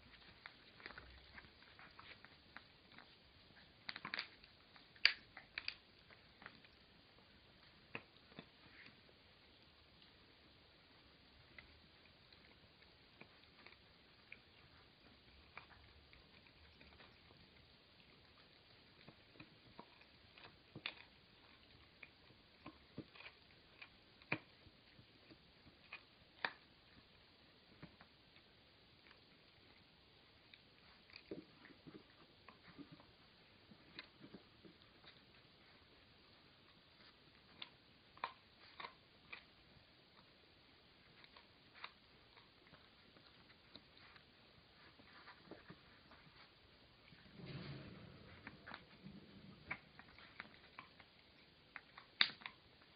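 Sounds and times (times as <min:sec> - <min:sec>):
dog teeth crunching chew: 0:00.0 - 0:10.2, 0:10.9 - 0:47.8, 0:48.6 - 0:52.9.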